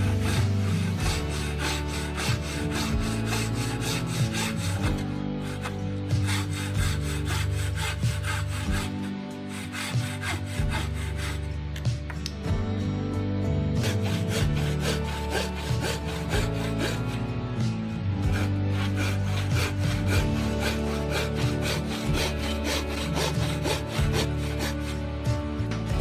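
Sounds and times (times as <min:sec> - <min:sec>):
sawing on wood: 0:00.0 - 0:11.9, 0:13.7 - 0:26.0
background music with quick beat: 0:00.0 - 0:26.0.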